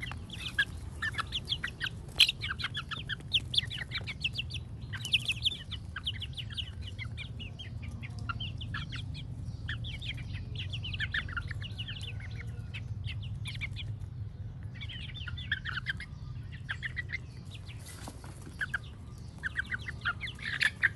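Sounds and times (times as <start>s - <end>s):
chicks peeping: 0.0s - 20.9s.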